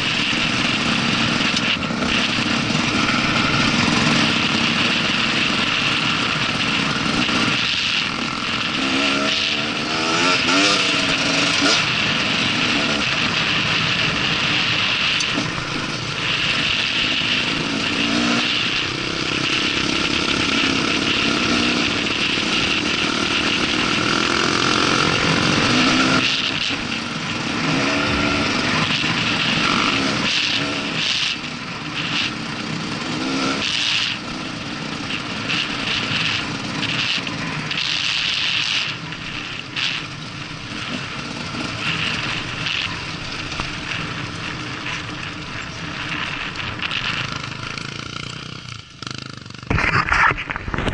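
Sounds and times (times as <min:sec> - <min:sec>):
dirt bike engines revving: 0:00.0 - 0:50.9
other trail bikes: 0:00.0 - 0:50.9.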